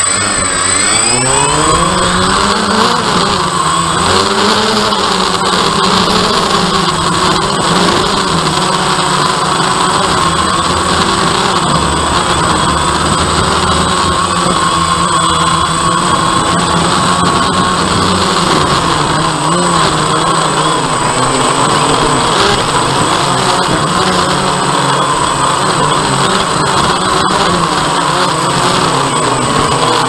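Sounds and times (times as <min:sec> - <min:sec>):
drone propellers humming: 0:00.0 - 0:30.0.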